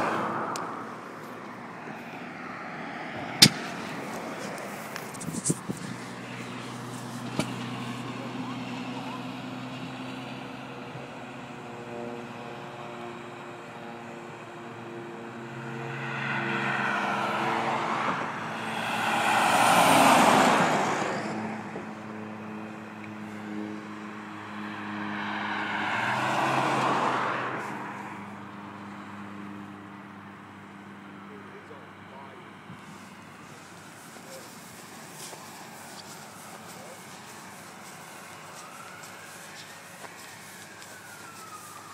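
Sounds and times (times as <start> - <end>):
highway traffic passing: 0.0 - 41.9.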